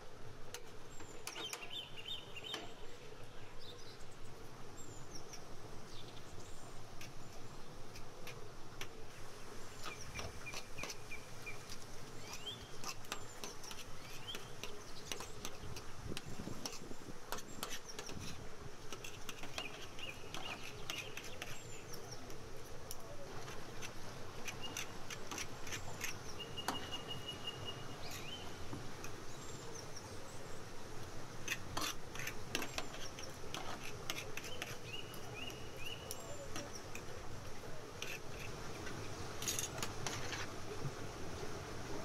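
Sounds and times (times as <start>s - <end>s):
small birds chirping: 0.6s - 8.4s, 9.1s - 40.4s.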